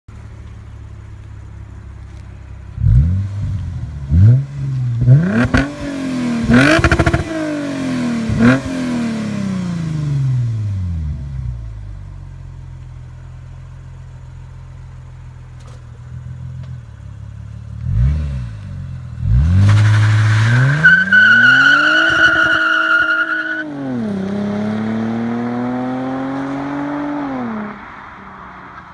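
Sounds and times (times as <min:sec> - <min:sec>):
car engine idling and revving: 0:00.1 - 0:28.9.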